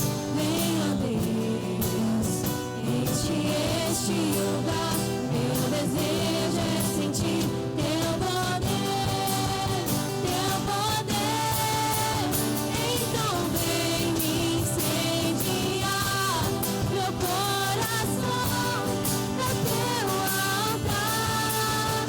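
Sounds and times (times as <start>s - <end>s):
solo voice singing: 0.0s - 22.0s
worship song by band: 0.0s - 22.0s.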